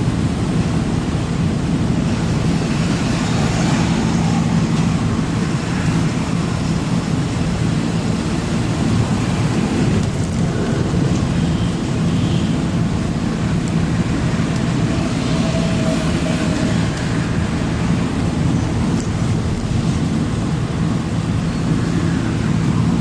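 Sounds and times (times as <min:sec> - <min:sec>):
road noise: 0:00.0 - 0:23.0
truck engine running: 0:00.0 - 0:23.0.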